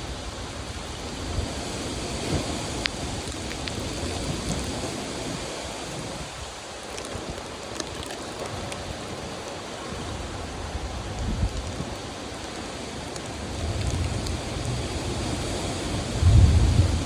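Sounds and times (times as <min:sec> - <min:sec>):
steady rain: 0:00.0 - 0:17.0
raindrops ticking close by: 0:00.1 - 0:17.0.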